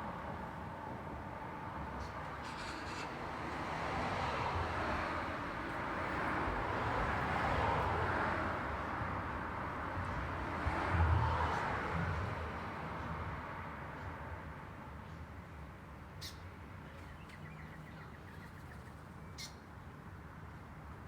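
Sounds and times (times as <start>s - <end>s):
road traffic passing: 0.1s - 21.0s.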